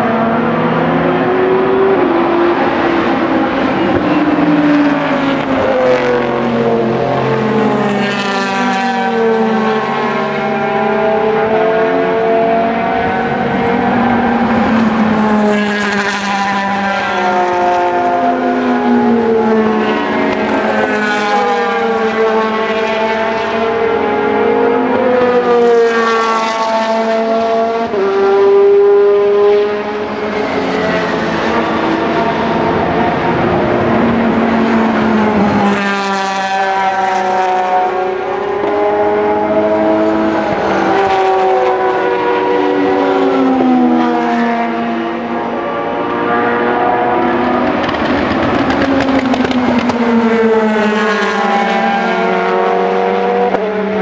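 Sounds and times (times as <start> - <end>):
race cars passing at speed: 0.0 - 54.0.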